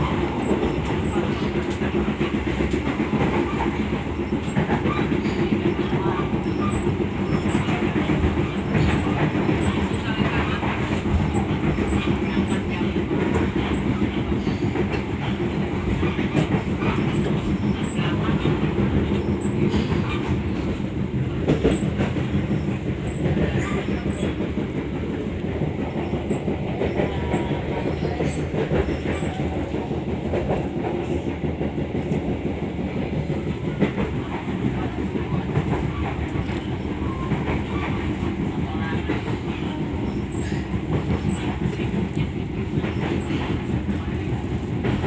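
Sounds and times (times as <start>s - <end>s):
train rumble inside carriage: 0.0s - 45.0s.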